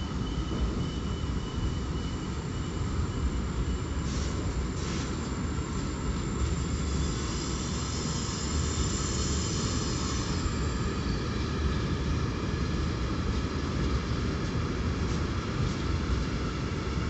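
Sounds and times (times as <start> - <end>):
train wheels on rail: 0.0 - 17.0.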